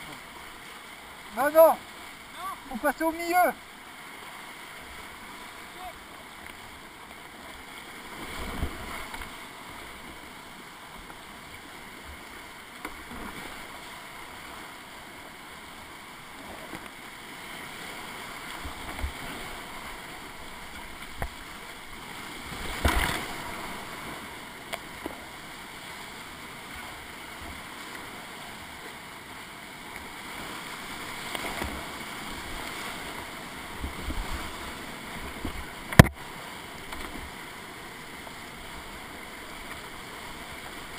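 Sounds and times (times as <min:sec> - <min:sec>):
paddle splashing water: 0:00.0 - 0:40.9
whitewater rapids rushing: 0:00.0 - 0:40.9.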